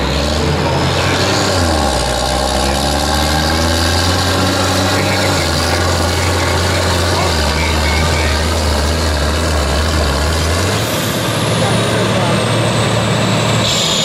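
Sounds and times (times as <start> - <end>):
tractor diesel engines droning: 0.0 - 14.0.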